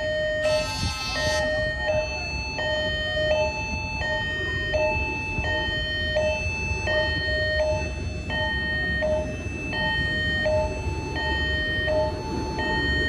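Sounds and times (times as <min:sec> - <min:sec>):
level crossing two-tone alarm: 0:00.0 - 0:13.0
traffic rumble: 0:00.0 - 0:13.0.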